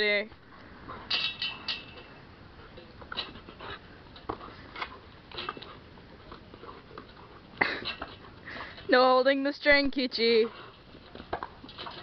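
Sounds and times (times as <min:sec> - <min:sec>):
dogs tapping and scuffing a ball: 0:00.9 - 0:12.0.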